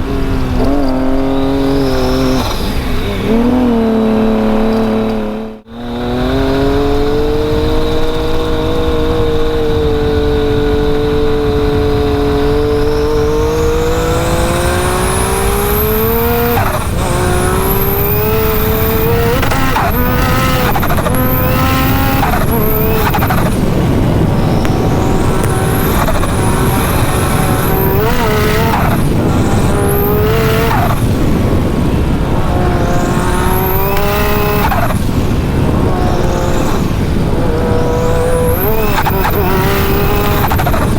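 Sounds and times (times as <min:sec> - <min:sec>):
engine revving: 0:00.0 - 0:40.9.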